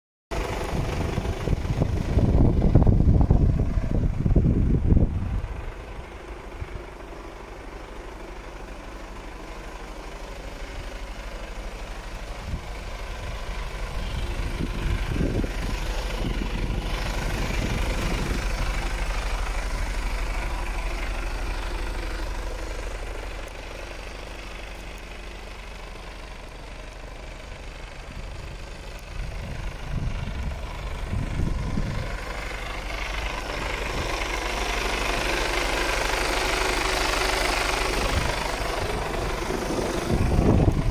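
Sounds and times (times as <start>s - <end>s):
diesel truck engine idling: 0.3s - 40.9s.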